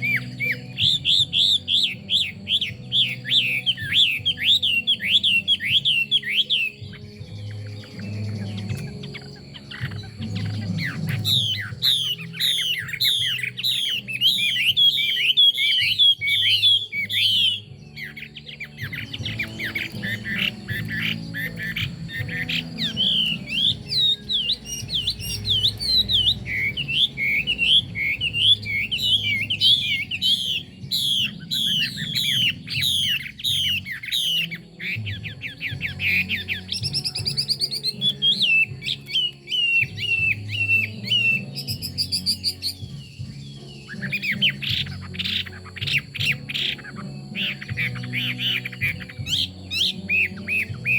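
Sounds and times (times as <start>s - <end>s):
bird singing: 0.0s - 50.9s.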